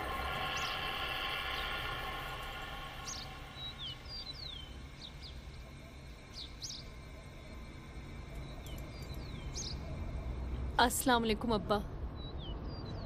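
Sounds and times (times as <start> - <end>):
low steady background noise: 0.0 - 13.0
small birds chirping: 0.0 - 13.0.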